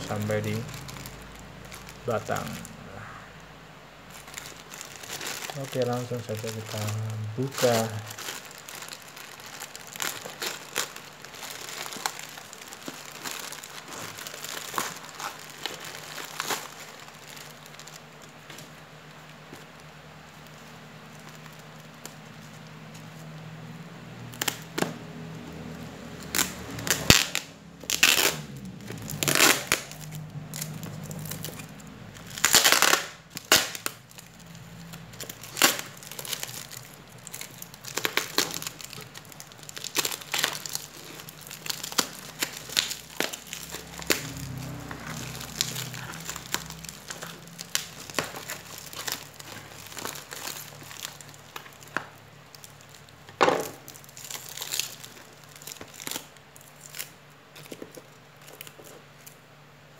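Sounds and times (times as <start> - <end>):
plastic wrap crinkling and tearing: 0.0 - 59.9.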